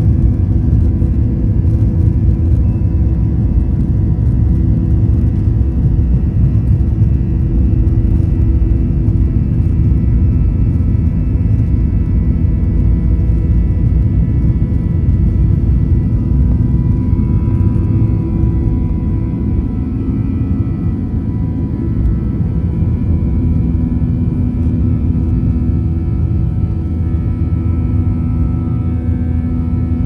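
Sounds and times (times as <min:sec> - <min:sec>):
jet engines rumbling in cabin: 0:00.0 - 0:30.0
thin engine whine: 0:00.0 - 0:30.0.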